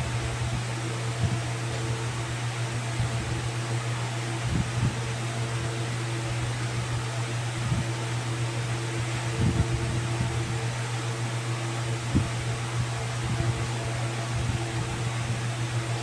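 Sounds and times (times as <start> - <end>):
fan humming and hissing: 0.0 - 16.0.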